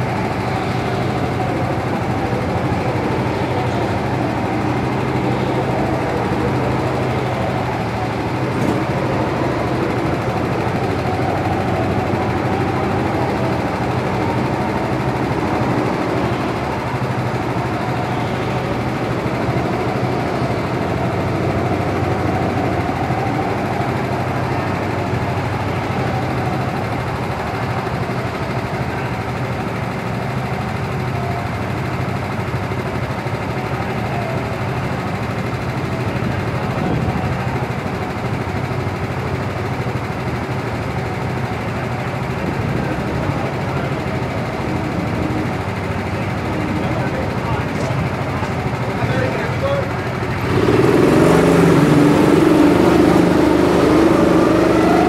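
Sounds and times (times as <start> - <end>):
go-kart engine idling: 0.0 - 55.0.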